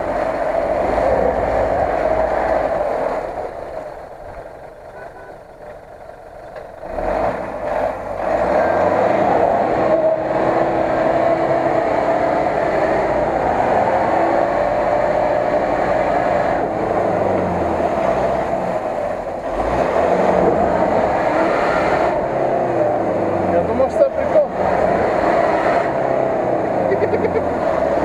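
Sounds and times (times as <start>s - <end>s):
truck engine revving under load: 0.0s - 28.0s.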